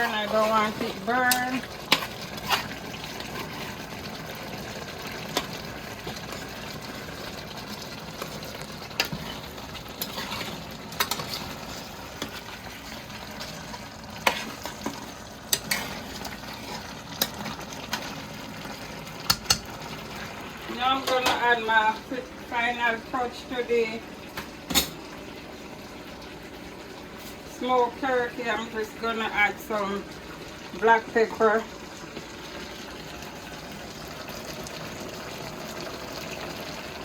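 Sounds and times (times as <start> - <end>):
food sizzling in a pot: 0.0 - 37.0.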